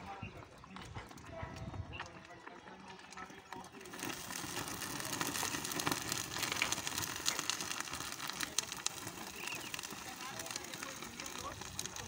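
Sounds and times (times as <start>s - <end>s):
thermite burning with crackles: 0.0s - 12.0s.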